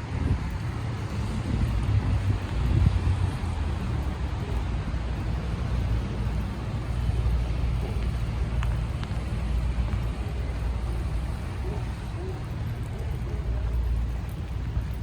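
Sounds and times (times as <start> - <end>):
city traffic rumble: 0.0 - 15.0
wet hiss of rain: 0.0 - 15.0
faint ticks: 0.4 - 15.0.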